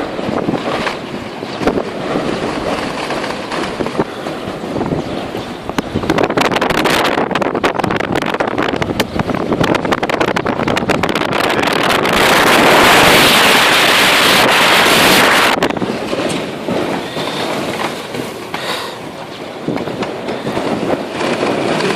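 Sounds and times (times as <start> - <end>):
strong wind buffeting microphone: 0.0 - 21.9.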